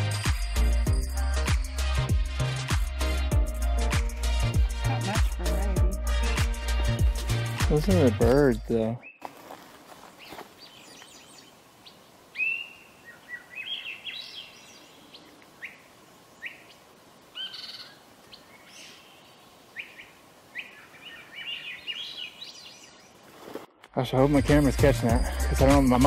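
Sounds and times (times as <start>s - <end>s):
songbird singing: 3.8s - 26.0s.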